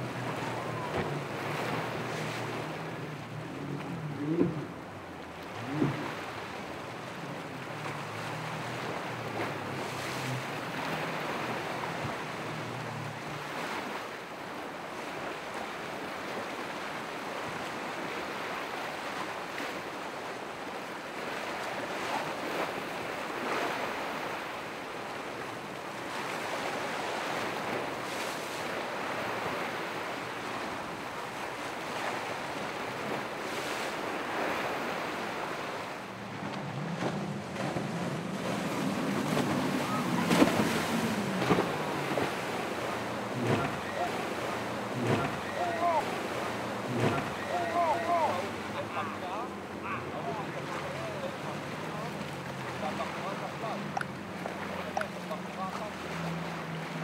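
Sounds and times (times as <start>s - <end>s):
boat motor hum: 0.0s - 57.0s
ocean waves breaking: 0.0s - 57.0s.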